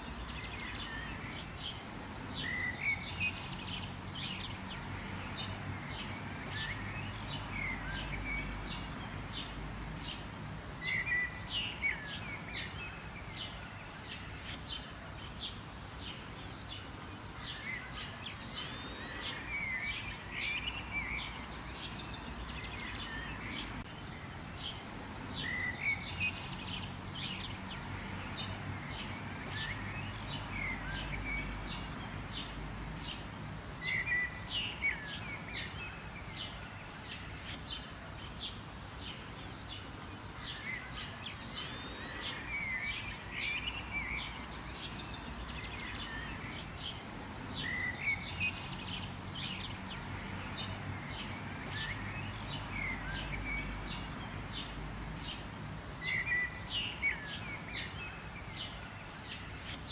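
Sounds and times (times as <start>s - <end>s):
birds singing and chirping: 0.0s - 59.9s
steady background hiss: 0.0s - 59.9s.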